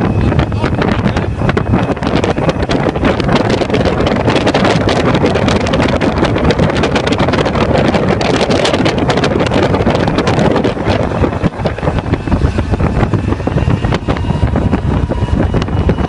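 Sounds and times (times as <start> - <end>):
boat engine rush: 0.0 - 16.0
wind buffeting microphone: 0.0 - 16.0.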